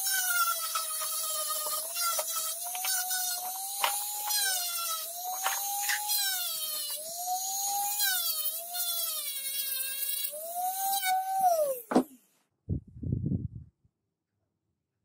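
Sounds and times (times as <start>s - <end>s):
rotary tool grinding metal: 0.0s - 12.2s.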